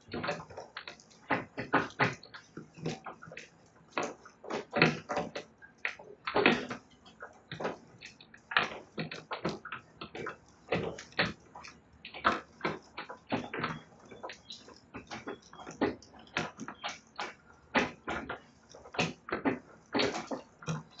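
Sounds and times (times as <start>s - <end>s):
birds chewing wood: 0.0s - 21.0s.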